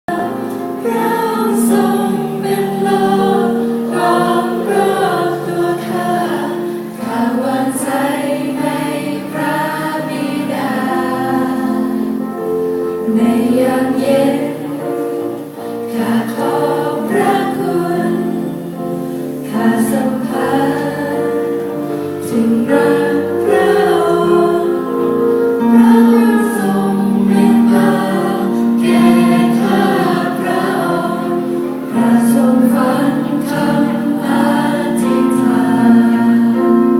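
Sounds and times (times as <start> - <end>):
youth choir singing in harmony: 0.1 - 36.9.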